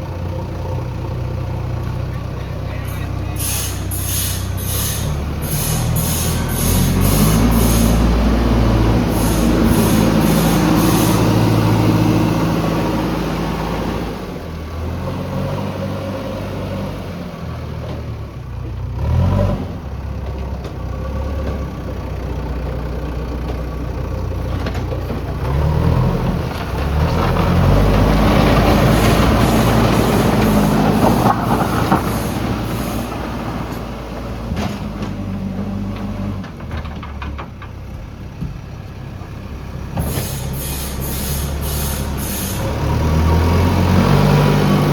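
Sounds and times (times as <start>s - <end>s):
diesel engine revving: 0.0s - 37.4s, 38.9s - 44.9s.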